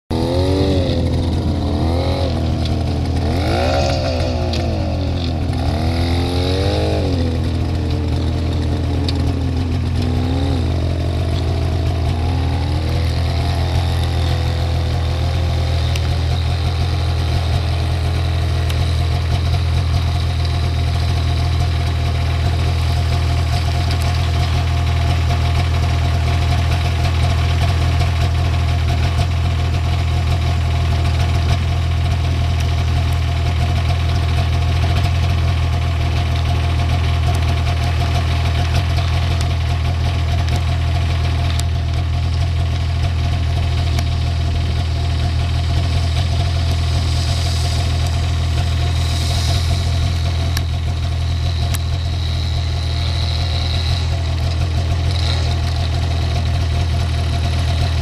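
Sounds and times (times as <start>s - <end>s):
all-terrain vehicle engine revving: 0.1s - 58.0s.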